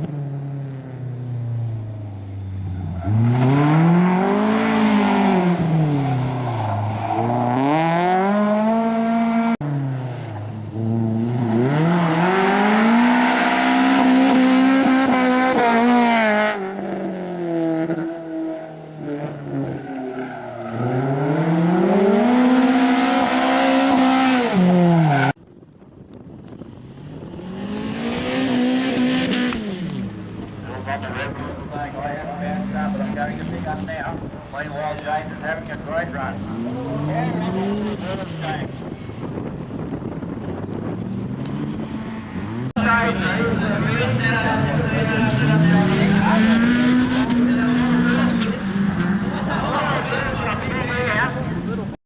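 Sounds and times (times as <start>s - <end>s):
race car engine revving: 0.0s - 25.4s, 26.8s - 52.0s.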